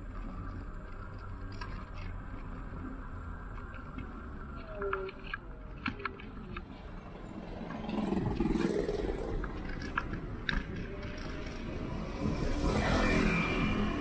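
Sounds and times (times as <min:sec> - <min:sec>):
scooter wheels rumbling on road: 0:00.0 - 0:14.0.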